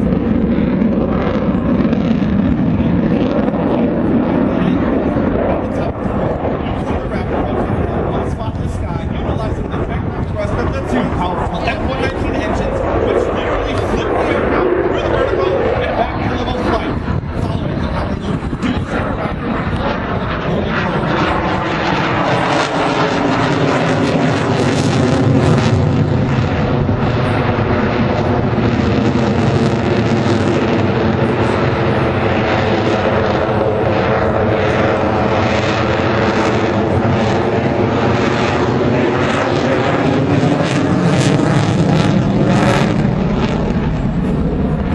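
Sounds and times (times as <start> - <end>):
airplane engine droning: 0.0 - 44.9.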